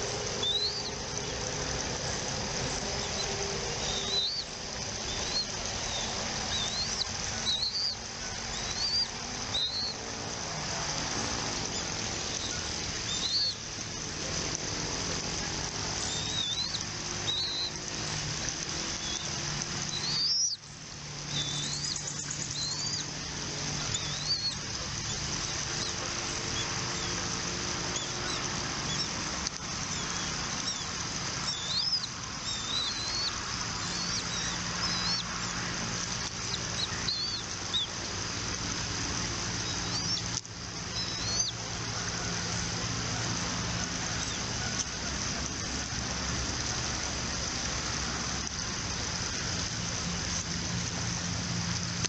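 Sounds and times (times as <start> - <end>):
birds chirping: 0.0 - 45.9
steady high hiss: 0.0 - 52.0.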